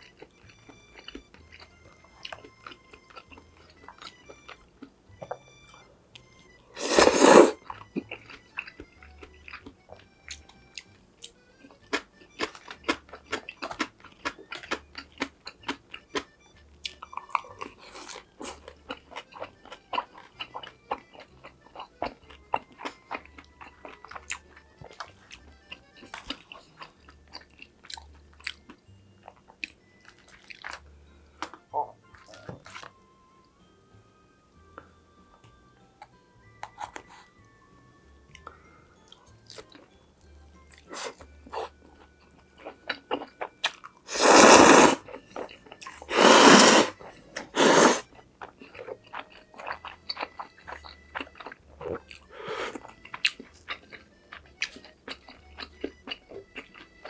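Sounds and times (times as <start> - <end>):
chewing with crisp crunching: 0.0 - 33.7, 34.6 - 57.0.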